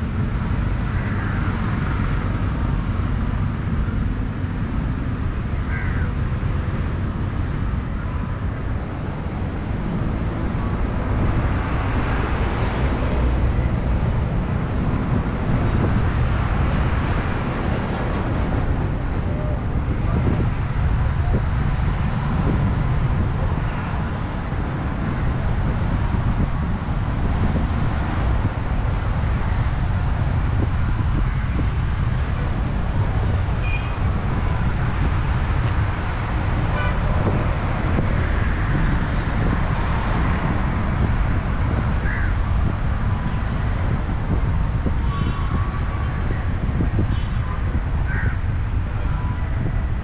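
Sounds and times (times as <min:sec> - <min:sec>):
street traffic rumble: 0:00.0 - 0:50.0.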